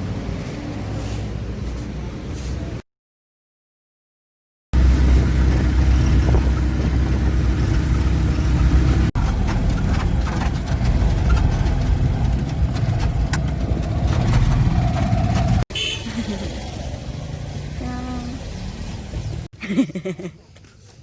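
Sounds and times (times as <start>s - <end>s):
vehicle engine rumbling: 0.0s - 2.8s, 4.8s - 19.6s.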